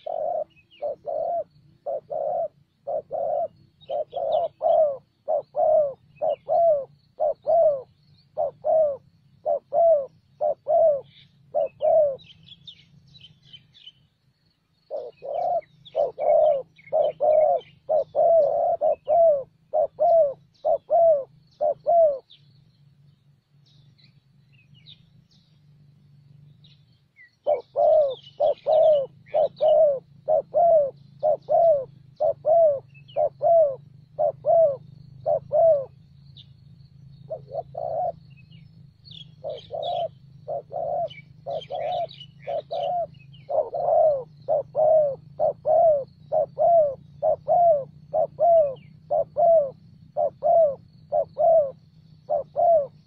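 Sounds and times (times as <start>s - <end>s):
dove cooing: 0.0s - 14.0s, 14.8s - 22.4s, 27.2s - 53.0s
small birds chirping: 0.0s - 53.0s.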